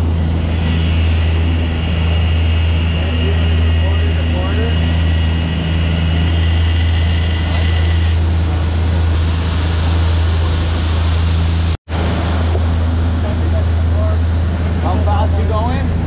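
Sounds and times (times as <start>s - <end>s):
boat engines droning: 0.0s - 16.0s
churning wake rushing: 0.0s - 16.0s.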